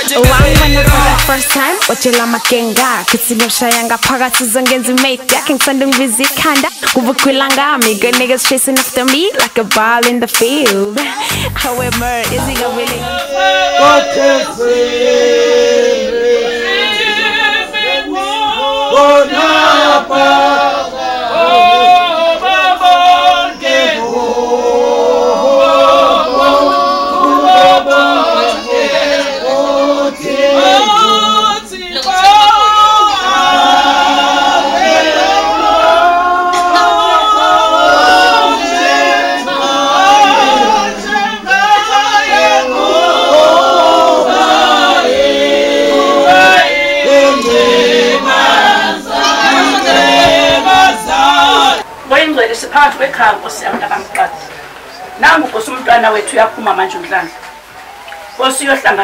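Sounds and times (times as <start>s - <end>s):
choir singing a cappella: 0.0s - 9.0s, 11.0s - 52.0s.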